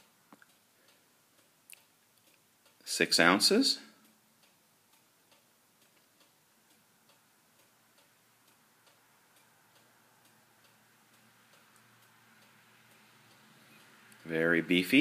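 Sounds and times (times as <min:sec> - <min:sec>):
soft even ticking: 0:00.0 - 0:15.0.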